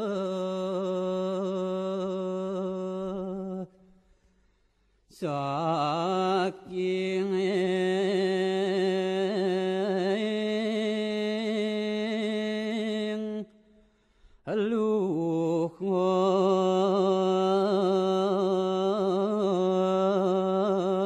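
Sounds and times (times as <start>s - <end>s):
vocal mantra chanting: 0.0s - 4.0s, 5.1s - 13.7s, 14.5s - 21.0s.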